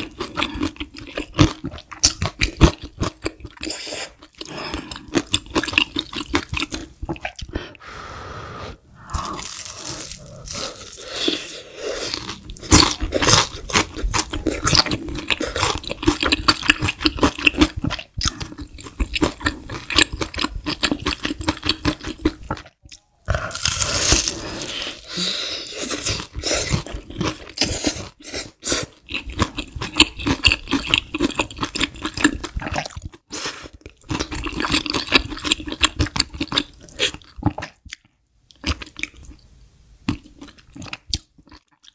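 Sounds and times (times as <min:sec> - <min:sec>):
crunching and chewing fried chicken: 0:00.0 - 0:07.5, 0:12.1 - 0:39.4, 0:40.0 - 0:41.9.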